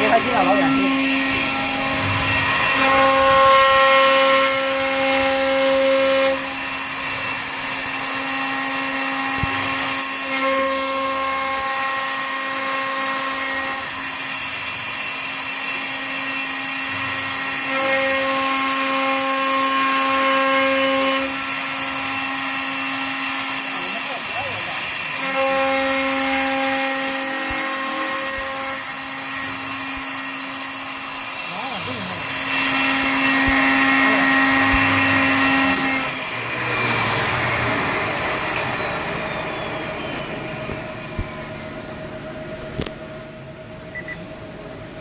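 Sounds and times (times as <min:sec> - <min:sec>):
lathe machine hum: 0:00.0 - 0:45.0
spindle whine: 0:00.0 - 0:45.0.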